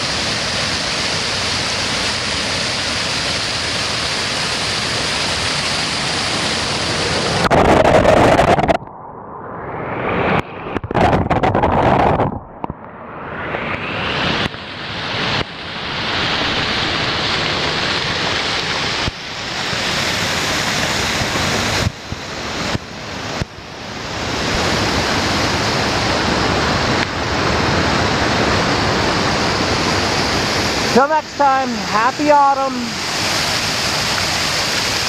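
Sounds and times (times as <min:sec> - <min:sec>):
waterfall crashing into whitewater: 0:00.0 - 0:08.7, 0:14.1 - 0:35.0.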